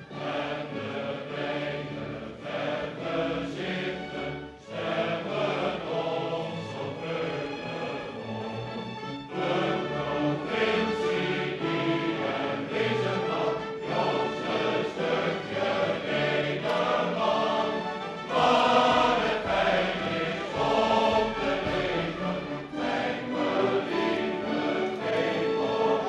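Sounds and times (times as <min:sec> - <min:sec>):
large chorus singing: 0:00.0 - 0:26.0
orchestra accompanying: 0:00.0 - 0:26.0.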